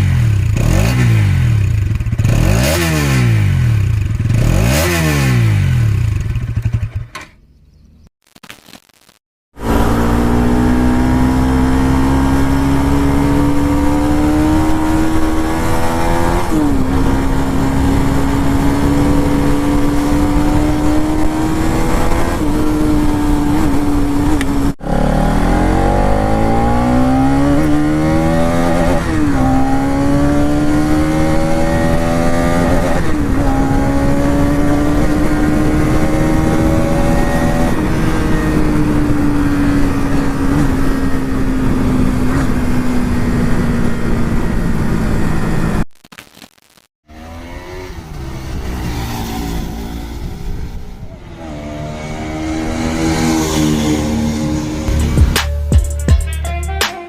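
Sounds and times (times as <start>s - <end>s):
motorcycle engine and exhaust: 0.0s - 8.1s, 9.6s - 45.9s, 47.1s - 56.4s.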